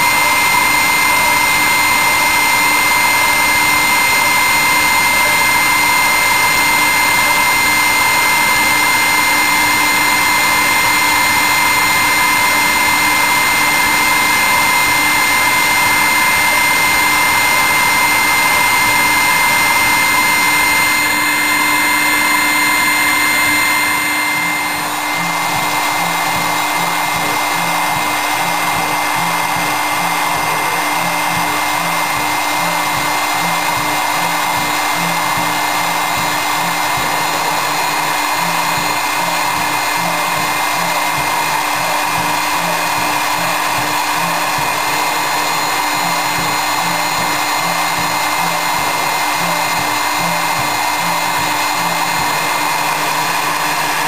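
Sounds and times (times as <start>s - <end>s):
milling machine spindle whining: 0.0s - 54.0s.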